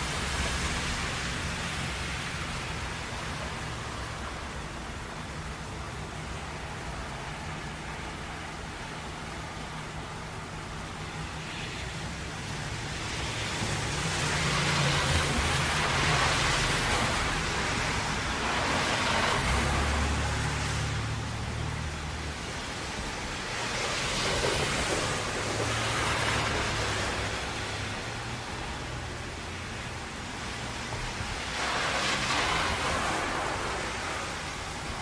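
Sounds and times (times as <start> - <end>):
rain and tyre spray hiss: 0.0 - 35.0.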